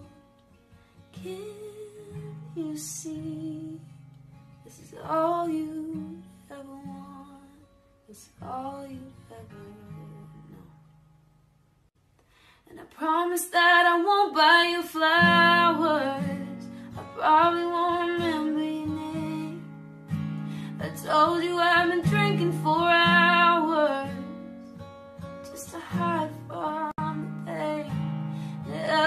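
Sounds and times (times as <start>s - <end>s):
woman singing: 1.1s - 10.9s, 12.7s - 24.6s, 25.2s - 29.0s.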